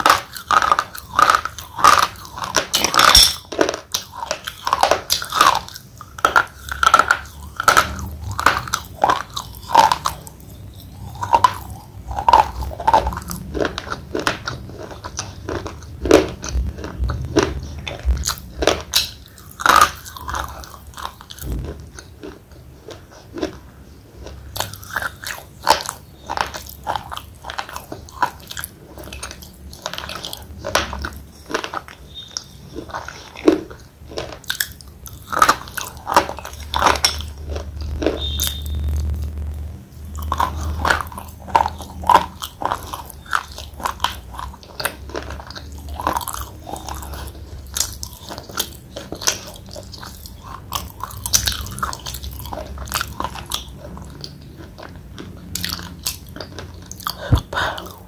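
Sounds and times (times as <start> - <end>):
crunching and chewing slate pencil: 0.0 - 58.0.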